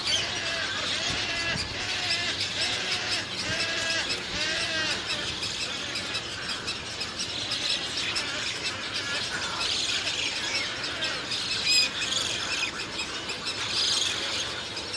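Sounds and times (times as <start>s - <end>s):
bird chicks begging calls: 0.0s - 14.9s.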